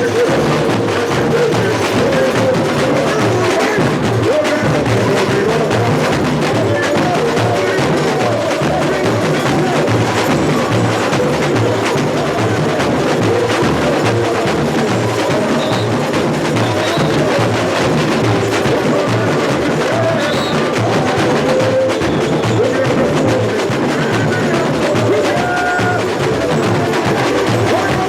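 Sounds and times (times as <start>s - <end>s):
snare and small percussion: 0.0s - 28.0s
surdo bass drums pounding: 0.0s - 28.0s.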